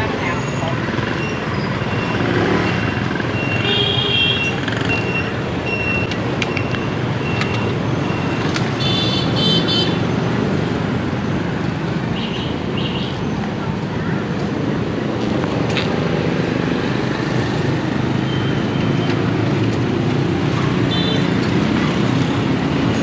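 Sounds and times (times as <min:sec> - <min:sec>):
motorbikes passing: 0:00.0 - 0:05.6, 0:06.2 - 0:23.0.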